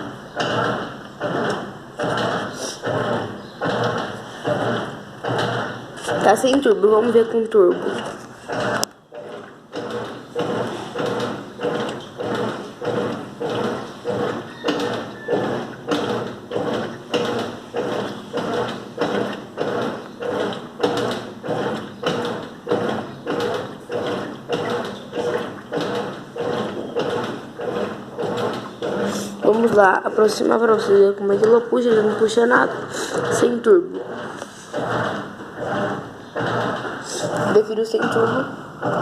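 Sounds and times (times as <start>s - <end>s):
washing machine agitator swishing water: 0.0s - 39.0s.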